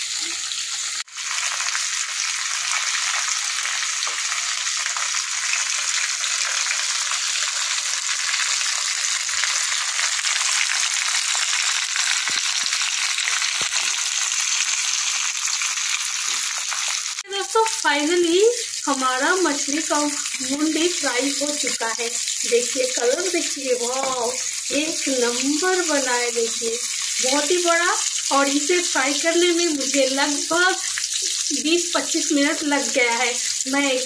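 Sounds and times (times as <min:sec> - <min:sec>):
fish frying in oil: 0:00.0 - 0:34.0.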